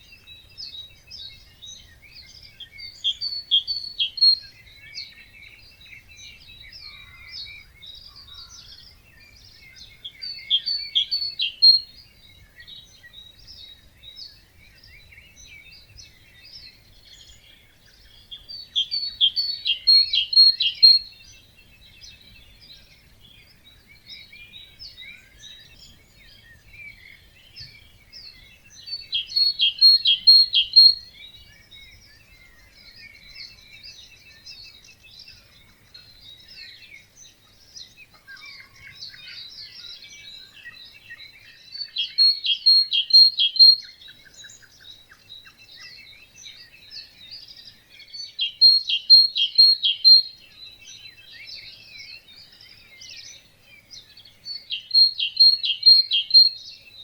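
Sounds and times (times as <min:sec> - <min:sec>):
birds chirping: 0:00.0 - 0:57.0
loud trilled bird song: 0:00.0 - 0:57.0.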